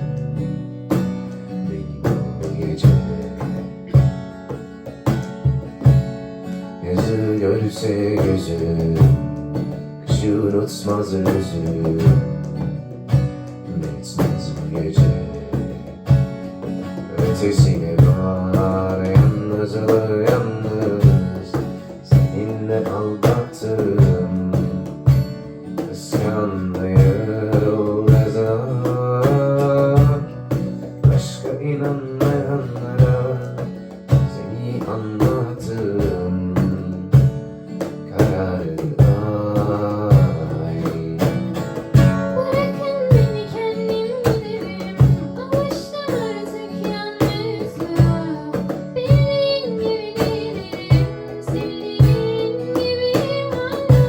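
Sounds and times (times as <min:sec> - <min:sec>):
acoustic guitar chords: 0:00.0 - 0:54.0
cajon beat: 0:00.0 - 0:54.0.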